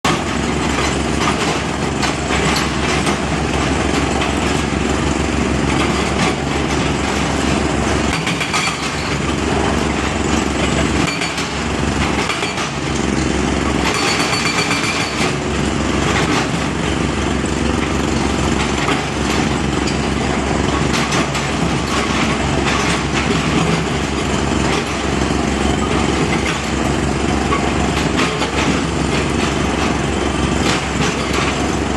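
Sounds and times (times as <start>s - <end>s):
earthmoving machine engine running: 0.1s - 31.9s.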